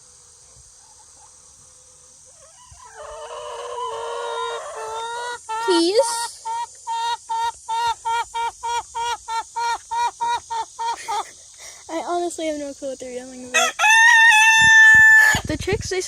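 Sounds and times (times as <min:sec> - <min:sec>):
chickens squawking: 0:00.4 - 0:11.8, 0:13.4 - 0:15.5.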